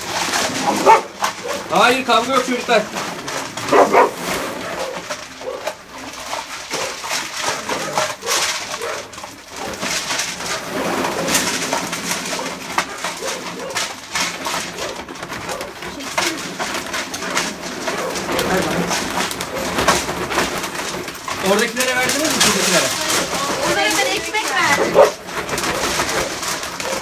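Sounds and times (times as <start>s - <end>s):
dogs chewing food: 0.0s - 27.0s
dogs grumbling: 0.1s - 1.8s, 3.0s - 20.9s, 22.3s - 27.0s.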